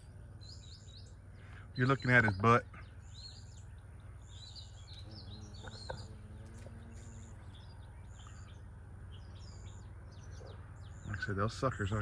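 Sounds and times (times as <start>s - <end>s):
songbirds chirping and whistling: 0.0s - 12.0s.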